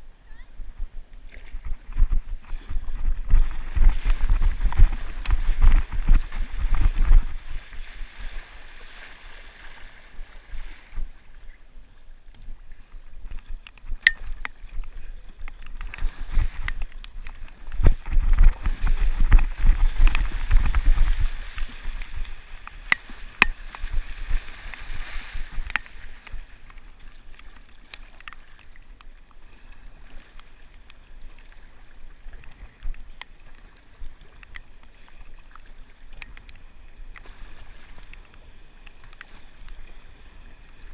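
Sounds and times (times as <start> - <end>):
water splashing against kayak hull: 0.8 - 40.9.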